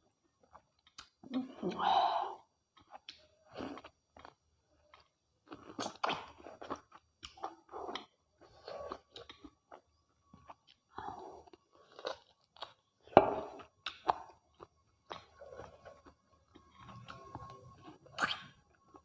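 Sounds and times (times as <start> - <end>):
wet chewing and mouth sounds: 2.7 - 19.0.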